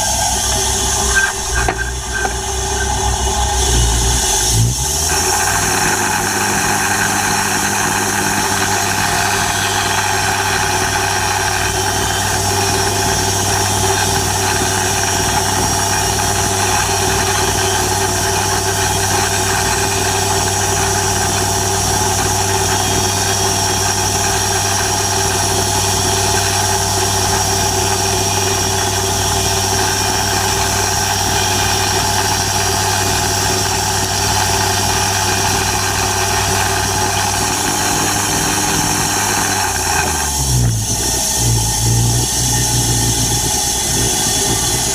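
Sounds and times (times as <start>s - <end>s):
sawmill engine running: 0.0s - 44.9s.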